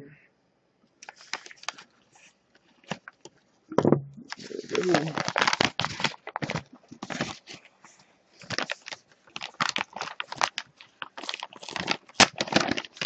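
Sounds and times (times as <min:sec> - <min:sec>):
paper envelope crinkling and tearing: 0:01.0 - 0:03.3, 0:04.3 - 0:13.0.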